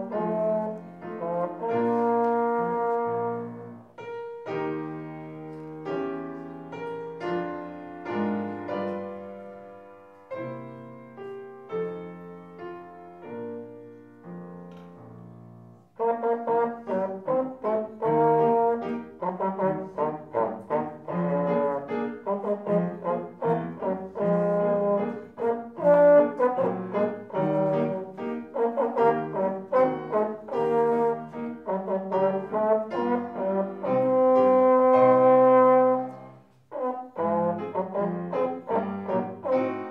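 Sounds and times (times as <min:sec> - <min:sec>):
piano accompaniment: 0:00.0 - 0:39.9.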